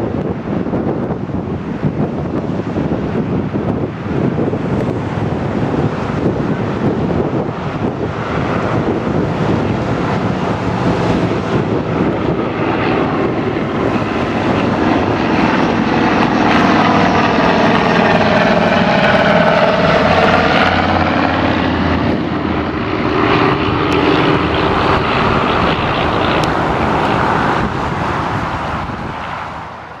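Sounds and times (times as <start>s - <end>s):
propeller aircraft droning overhead: 0.0s - 30.0s.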